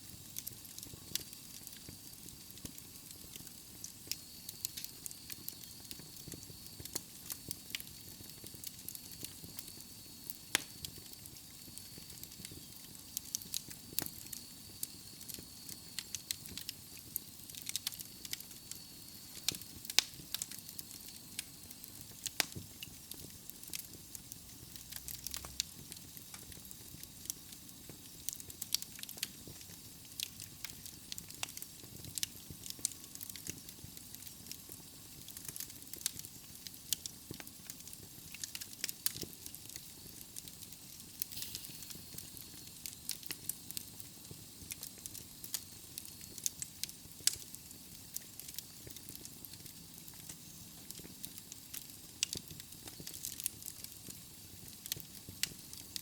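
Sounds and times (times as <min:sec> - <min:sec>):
logs crackling in a fireplace: 0:00.0 - 0:56.0.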